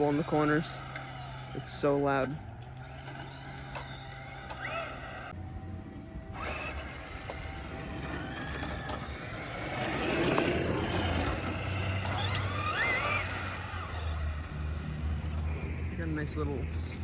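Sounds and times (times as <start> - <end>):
rc truck electric motor whine: 0.0 - 16.0
tyre and drivetrain noise: 0.0 - 17.0.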